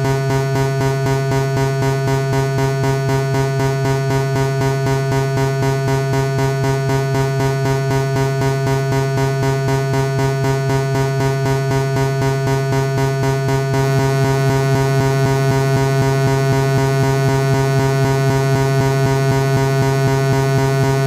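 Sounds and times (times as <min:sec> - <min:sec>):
pulsed low buzzy tone: 0:00.0 - 0:21.0.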